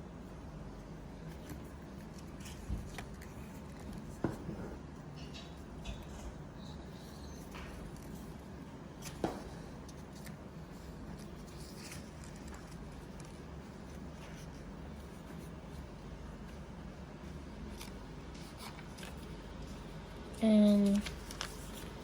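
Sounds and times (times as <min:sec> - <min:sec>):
steady low hum: 0:00.0 - 0:22.0
paper rustling and folding: 0:01.3 - 0:04.8, 0:05.9 - 0:16.6, 0:17.7 - 0:22.0.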